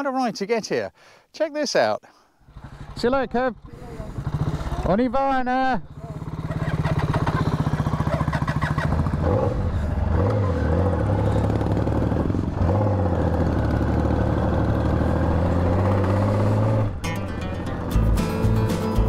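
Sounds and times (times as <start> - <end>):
motorcycle engine: 2.4 - 18.4.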